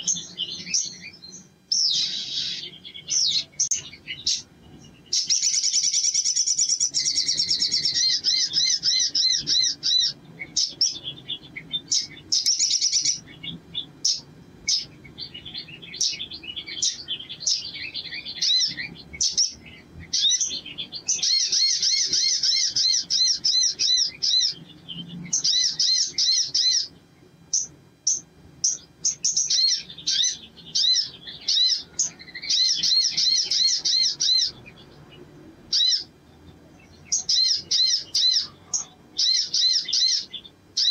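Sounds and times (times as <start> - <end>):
bird chirps: 0.0 - 40.9
bird singing high-pitched trills: 0.0 - 40.9.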